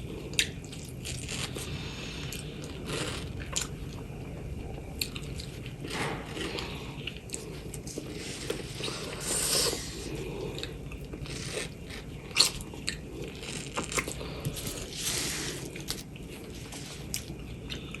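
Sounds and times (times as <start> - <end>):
biting and wet chewing: 0.2 - 18.0.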